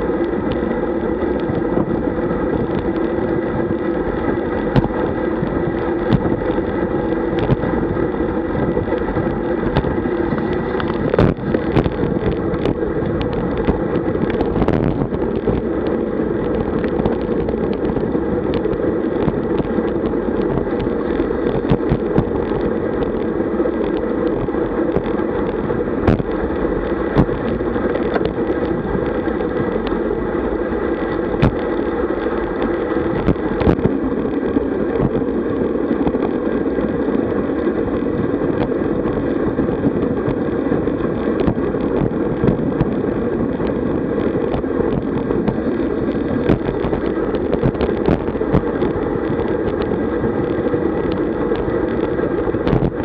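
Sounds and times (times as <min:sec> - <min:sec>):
road rumble: 0:00.0 - 0:53.0
wind rush: 0:00.0 - 0:53.0.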